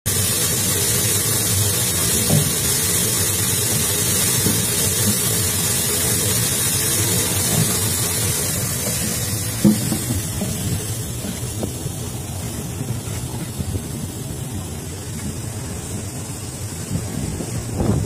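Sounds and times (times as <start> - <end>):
liquid gushing from hose: 0.1 - 18.0.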